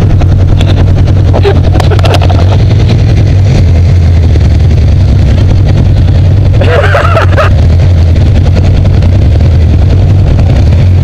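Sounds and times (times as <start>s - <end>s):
engine running with low drone: 0.0s - 11.0s.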